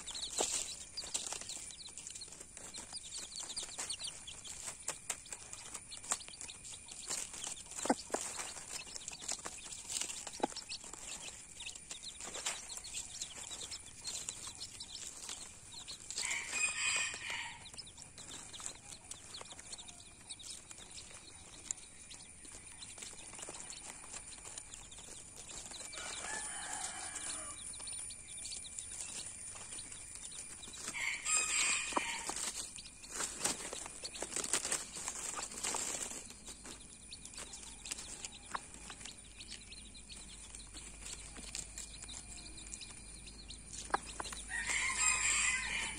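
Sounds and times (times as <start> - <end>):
hen clucking: 0.0 - 21.8, 30.6 - 45.9
chicks peeping: 0.0 - 45.9
rustling in dry leaves: 0.0 - 45.9.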